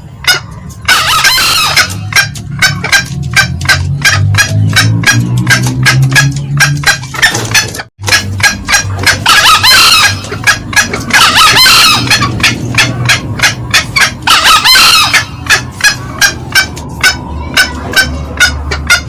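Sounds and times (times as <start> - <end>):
junglefowl cackling call: 0.2 - 19.0
junglefowl crowing: 0.2 - 19.0.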